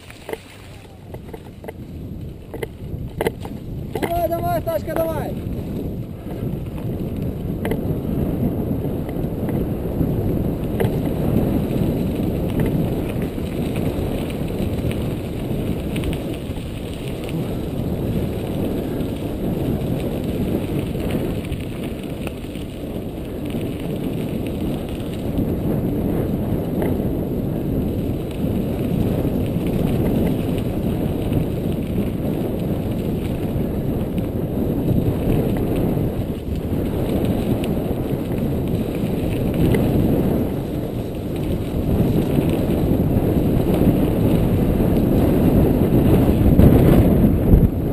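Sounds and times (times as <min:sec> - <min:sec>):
bike rattling: 0:00.0 - 0:47.9
tyres rolling on dirt: 0:00.0 - 0:47.9.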